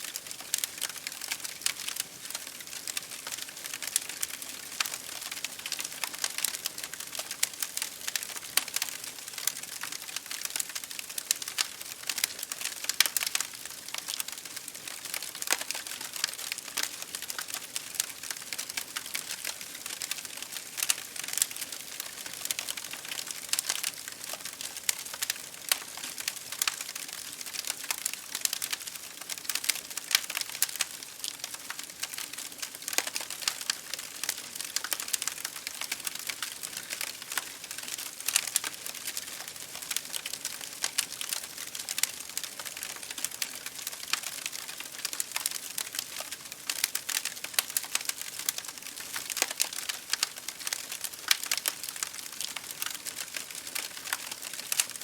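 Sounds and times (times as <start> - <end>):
rain against a window: 0.0 - 55.0
wood fire crackling: 0.1 - 55.0.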